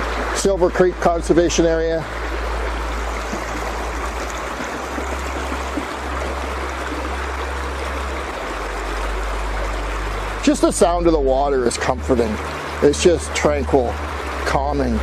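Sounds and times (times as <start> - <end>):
creek water rushing: 0.0 - 15.0
steady low rumble: 0.0 - 15.0.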